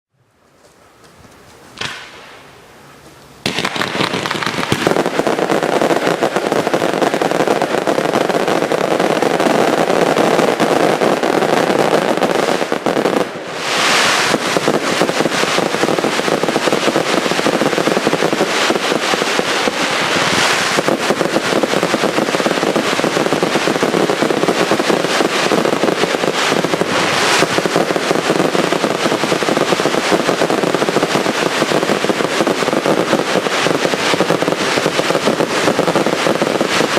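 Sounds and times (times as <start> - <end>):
fireworks hissing: 1.0 - 36.9
fireworks launching and banging: 1.0 - 36.9.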